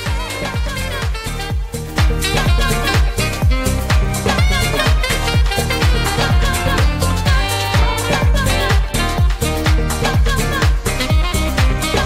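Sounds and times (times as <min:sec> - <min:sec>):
disco dance music: 0:00.0 - 0:12.0
kick drum beat: 0:00.0 - 0:12.0.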